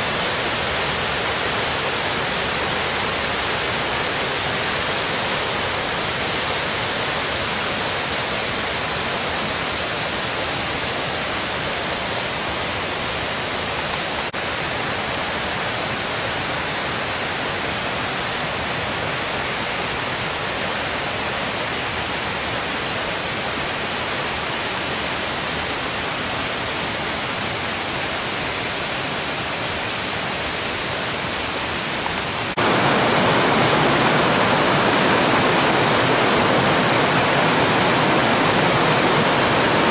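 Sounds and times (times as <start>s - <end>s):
mountain stream over rocks: 0.0s - 39.9s
rapids over boulders: 0.0s - 39.9s.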